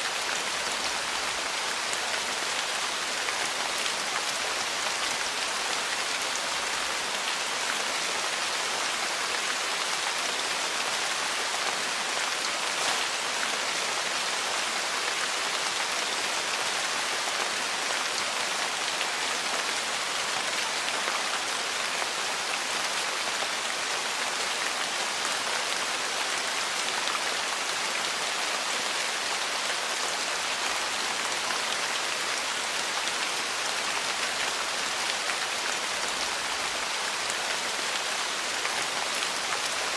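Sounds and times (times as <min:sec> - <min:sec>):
rain hissing on a porch: 0:00.0 - 0:39.9.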